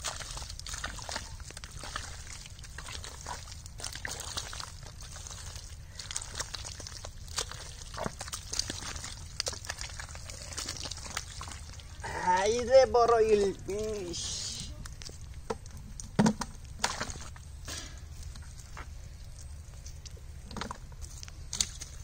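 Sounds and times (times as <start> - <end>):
hands squelching in wet mud: 0.0 - 12.5, 13.1 - 22.0.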